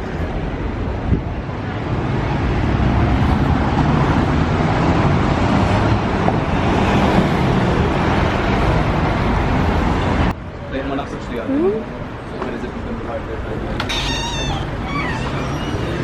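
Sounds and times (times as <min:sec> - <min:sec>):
low road rumble: 0:00.0 - 0:16.0.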